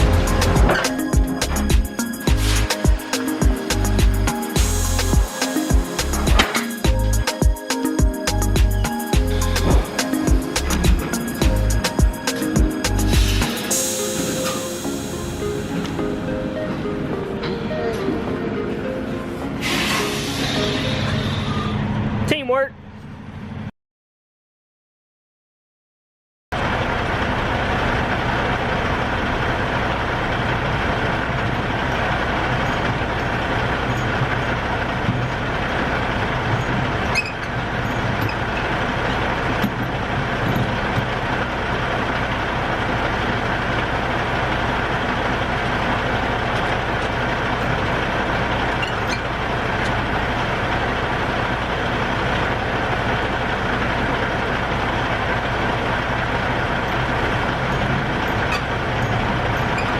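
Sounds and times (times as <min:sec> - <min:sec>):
truck diesel engine running: 0:00.0 - 0:23.7, 0:26.6 - 0:59.9.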